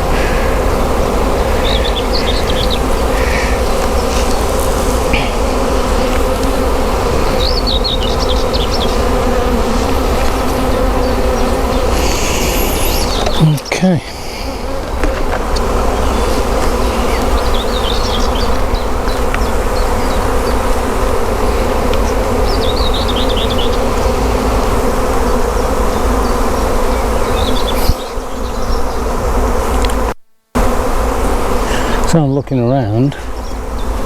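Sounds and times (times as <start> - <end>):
hum of bee swarm: 0.0 - 34.0.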